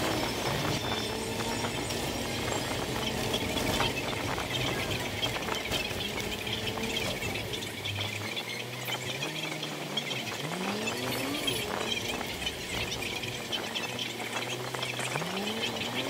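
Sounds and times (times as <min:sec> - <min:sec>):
sped-up traffic noise: 0:00.0 - 0:16.0.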